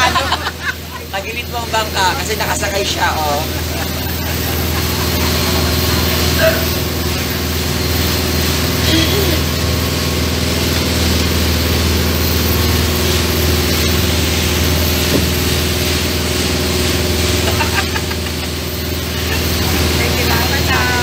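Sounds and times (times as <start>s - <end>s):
ferry engine drone: 0.0s - 21.0s.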